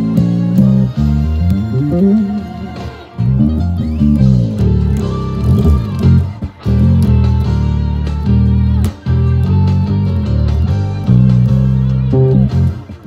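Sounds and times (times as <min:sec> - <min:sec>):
electric bass guitar: 0:00.0 - 0:13.0.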